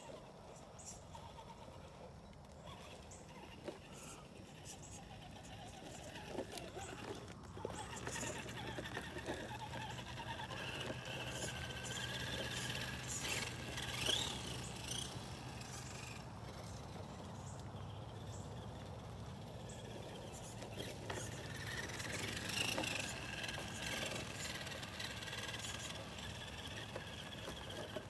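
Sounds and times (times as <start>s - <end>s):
toy car electric motor whining: 0.0s - 28.0s.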